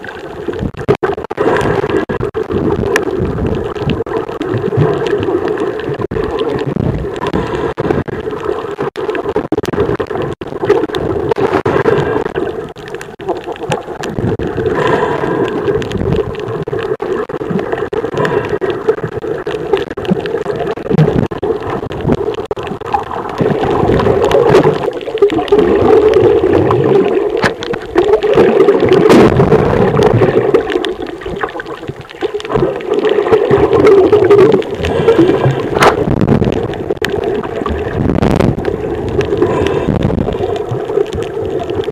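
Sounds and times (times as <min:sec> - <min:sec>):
faint underwater clicks: 0:00.0 - 0:41.9
underwater rushing wash: 0:00.0 - 0:41.9.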